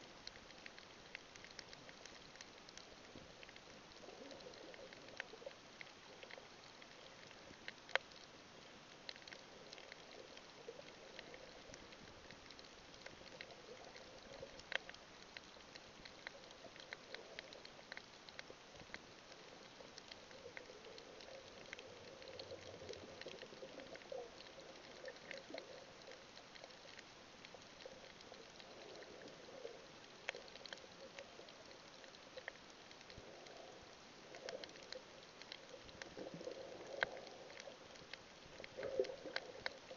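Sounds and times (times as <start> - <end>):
sharp underwater clicks and crackles: 0.0 - 39.9.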